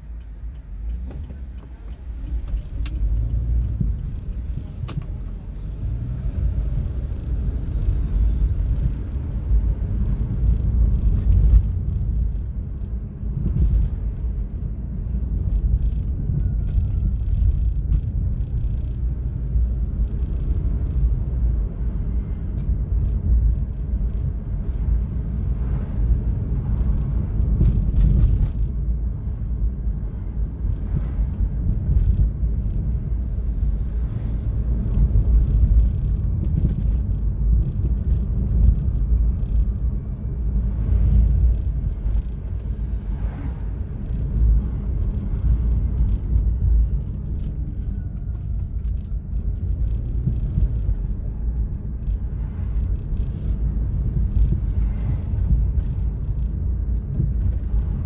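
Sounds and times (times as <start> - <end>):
car interior engine and road rumble: 0.0 - 58.0.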